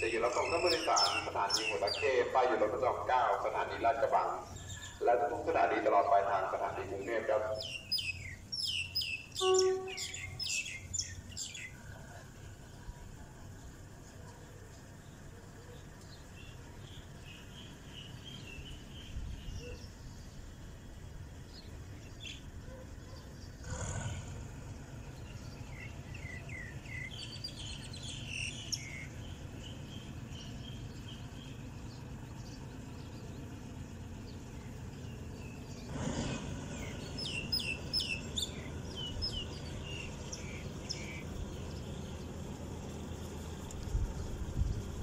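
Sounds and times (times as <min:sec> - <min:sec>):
train rumbling: 0:00.0 - 0:15.0, 0:23.6 - 0:45.0
small birds chirping: 0:00.0 - 0:45.0.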